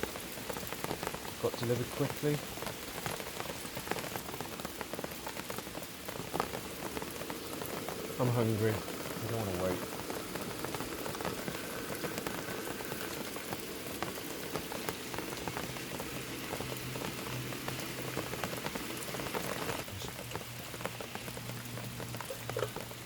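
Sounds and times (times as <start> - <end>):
bacon sizzling in a frying pan: 0.0 - 23.0.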